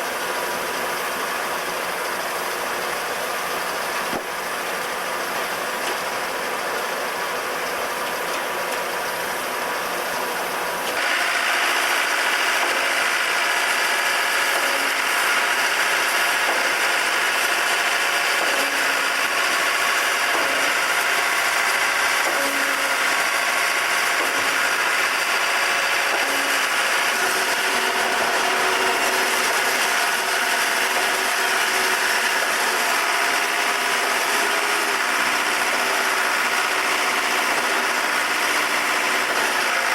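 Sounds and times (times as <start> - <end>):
concrete pump running: 0.0 - 39.9.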